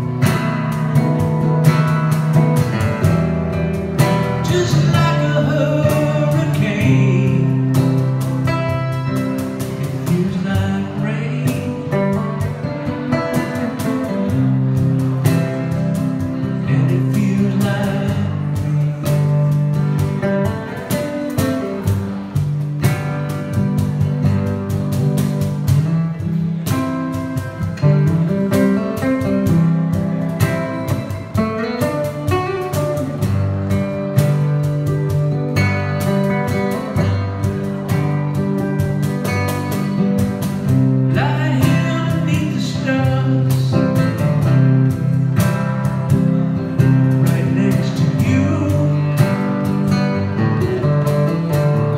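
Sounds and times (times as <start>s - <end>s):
acoustic guitar playing slow song: 0.0s - 51.9s.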